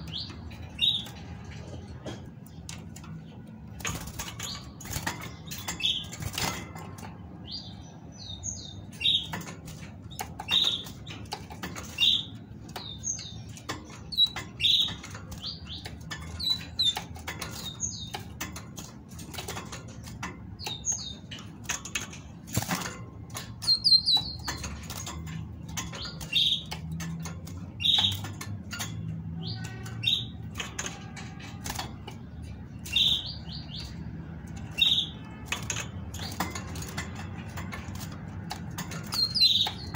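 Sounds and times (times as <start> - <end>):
bird feet clicking on wire: 0.0 - 39.9.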